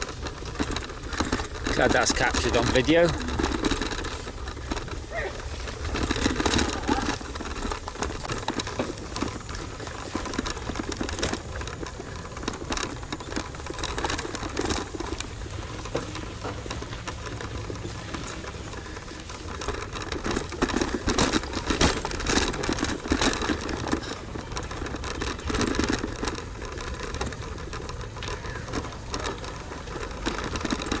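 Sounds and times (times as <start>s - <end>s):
mechanical rattling: 0.0s - 31.0s.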